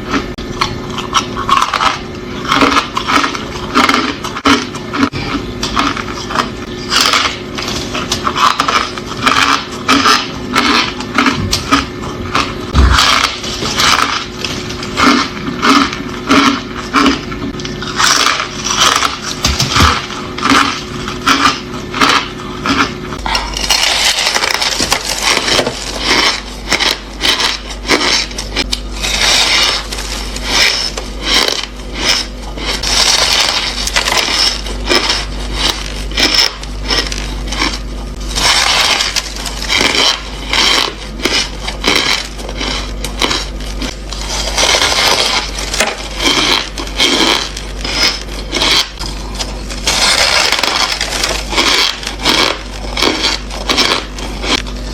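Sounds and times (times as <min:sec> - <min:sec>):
ice being chewed: 0:00.0 - 0:54.9
steady low hum: 0:00.0 - 0:54.9.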